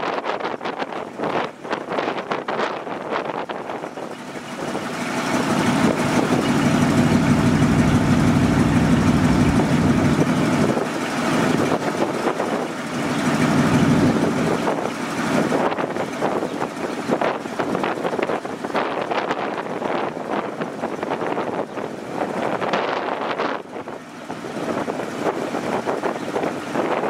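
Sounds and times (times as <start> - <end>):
truck engine running: 3.0 - 27.0.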